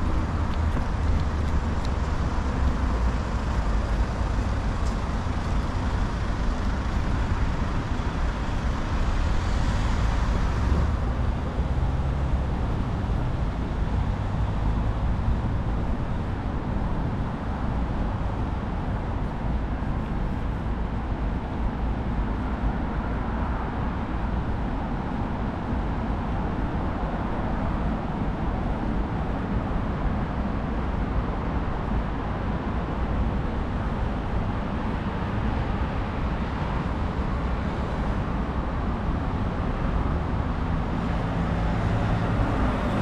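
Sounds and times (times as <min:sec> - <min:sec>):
passing cars traffic noise: 0:00.0 - 0:43.0.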